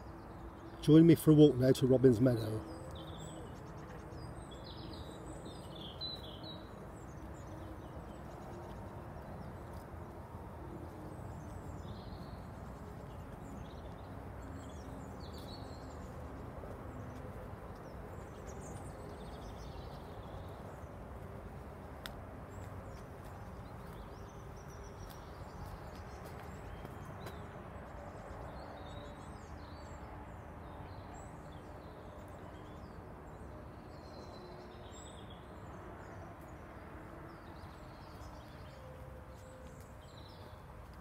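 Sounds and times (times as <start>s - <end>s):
small birds chirping: 0.0s - 41.0s
footsteps on tarmac: 0.3s - 29.8s, 36.1s - 41.0s.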